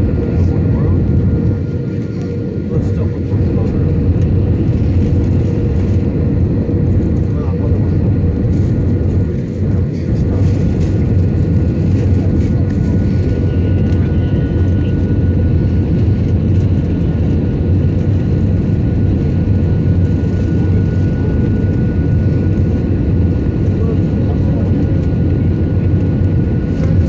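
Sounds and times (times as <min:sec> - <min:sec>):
jet cabin rumble: 0:00.0 - 0:27.0.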